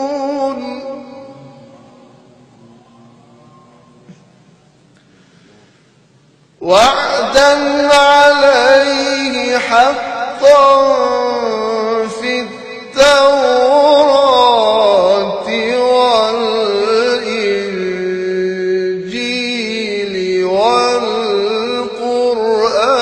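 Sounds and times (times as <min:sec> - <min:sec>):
man chanting into microphone: 0:00.0 - 0:04.1, 0:06.6 - 0:23.0.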